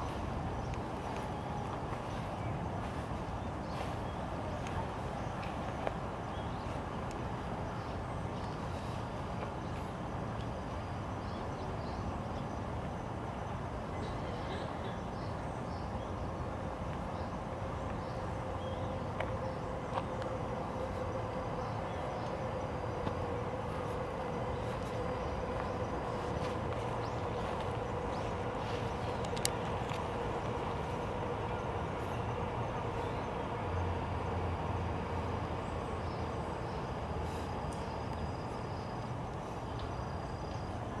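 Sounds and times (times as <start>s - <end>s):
faint steady hum: 0.0s - 41.0s
low outdoor rumble: 0.0s - 41.0s.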